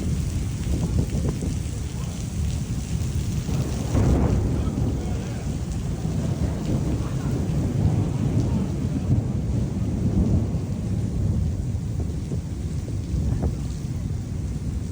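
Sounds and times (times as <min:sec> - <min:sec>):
low storm rumble: 0:00.0 - 0:14.9
rain: 0:00.0 - 0:14.9.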